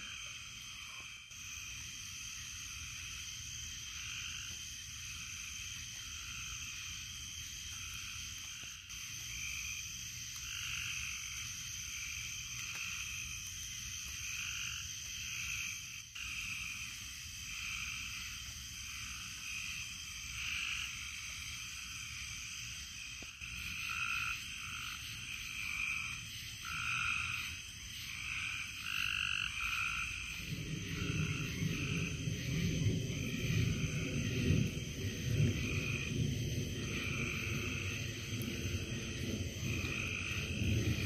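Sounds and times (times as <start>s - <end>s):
frogs croaking: 0.0s - 41.0s.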